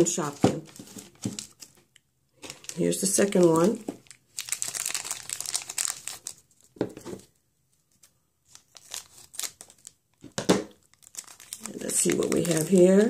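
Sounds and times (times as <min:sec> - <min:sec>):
plastic packet crinkling: 0:00.0 - 0:07.3, 0:07.9 - 0:13.0.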